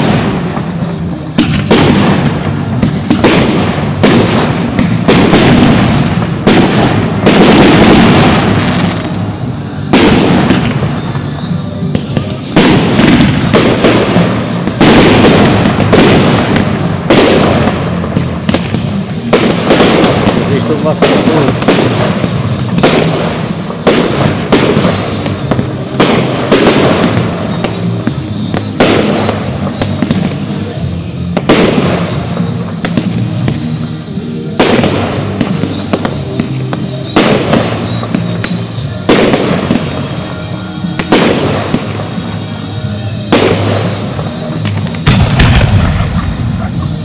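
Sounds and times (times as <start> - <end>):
fireworks bursting with bangs: 0.0 - 47.0
music with low tones: 0.0 - 47.0.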